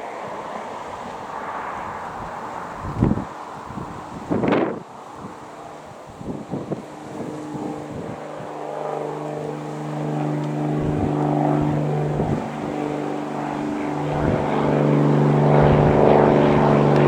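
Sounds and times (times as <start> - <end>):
aircraft engines droning: 0.0 - 17.0
wind buffeting microphone: 0.0 - 17.0.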